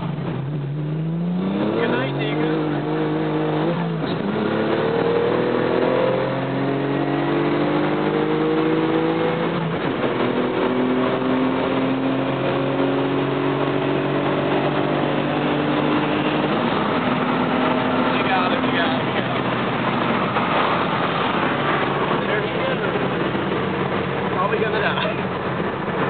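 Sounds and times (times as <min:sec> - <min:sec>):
car engine accelerating: 0:00.0 - 0:26.0
wind and road noise: 0:00.0 - 0:26.0.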